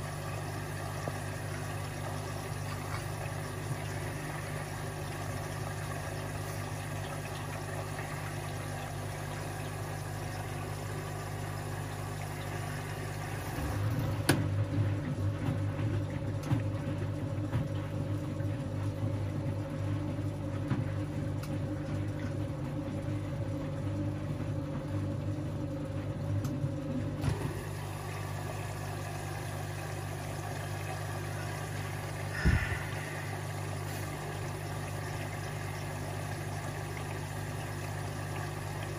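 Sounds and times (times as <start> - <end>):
washing machine hum: 0.0 - 38.9.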